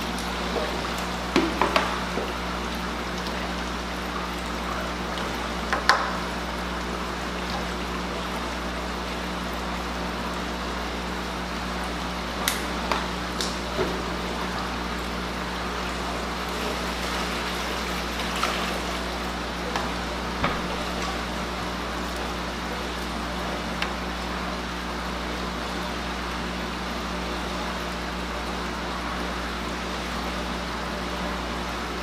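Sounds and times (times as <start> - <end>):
bubbles splashing in aquarium: 0.0 - 32.0
low hum of pumps: 0.0 - 32.0.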